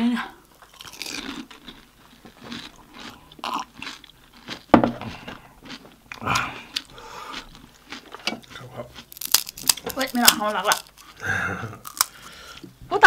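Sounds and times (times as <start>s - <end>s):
wet chewing and crunching: 0.5s - 11.2s, 11.8s - 12.8s.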